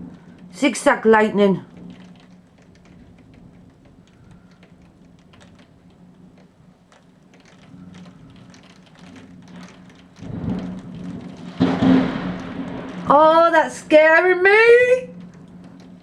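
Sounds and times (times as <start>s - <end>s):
low steady hum: 0.0s - 16.0s
raindrops tapping on a surface: 0.0s - 16.0s.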